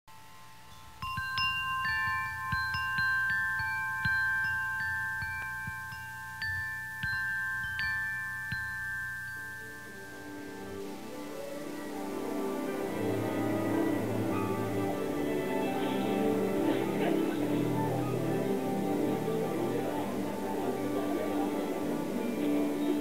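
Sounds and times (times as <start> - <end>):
lower held tones: 0.1 - 23.0
bell-like chime tones: 0.2 - 23.0.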